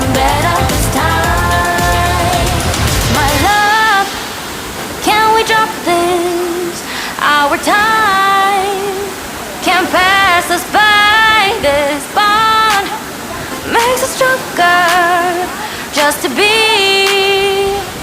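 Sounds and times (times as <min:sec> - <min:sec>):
waterfall rushing: 0:00.0 - 0:18.0
woman singing pop song: 0:00.0 - 0:18.0.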